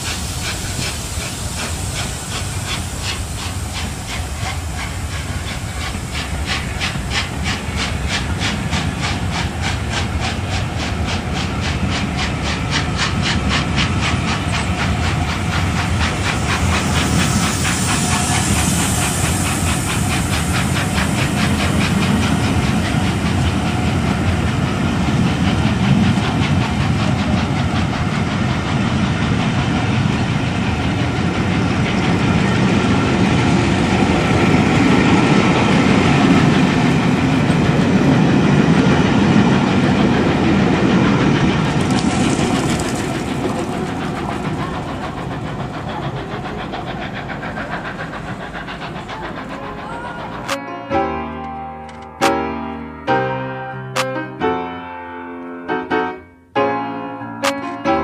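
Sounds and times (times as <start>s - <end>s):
train wheels rumbling on rail: 0.0s - 52.4s.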